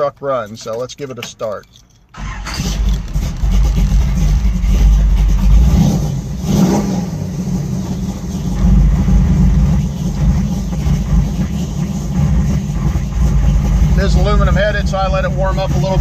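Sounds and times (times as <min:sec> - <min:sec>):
car engine idling and revving: 0:02.2 - 0:16.0.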